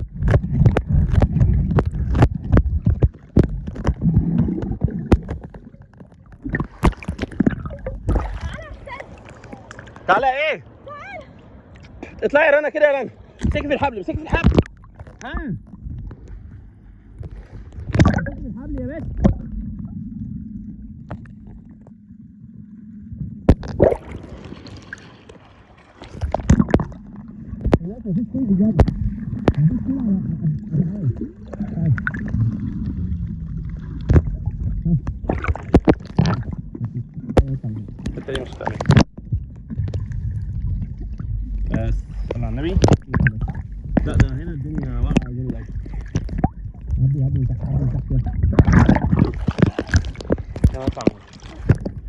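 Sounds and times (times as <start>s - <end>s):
water sloshing and gurgling: 0.0s - 52.0s.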